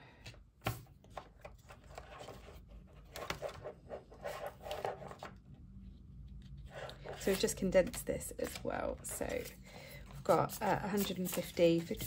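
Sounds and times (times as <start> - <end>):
paper and card rustling: 0.7 - 5.4, 6.3 - 12.0.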